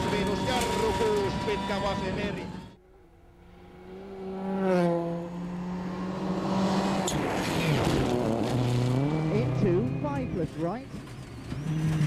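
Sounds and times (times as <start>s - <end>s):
rally car engine passing: 0.0s - 10.6s.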